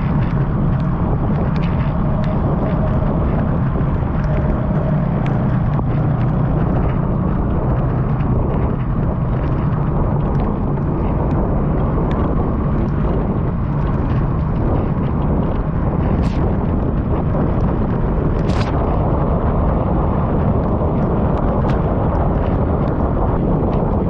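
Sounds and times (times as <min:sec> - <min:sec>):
wind and road noise rumble: 0:00.0 - 0:24.0.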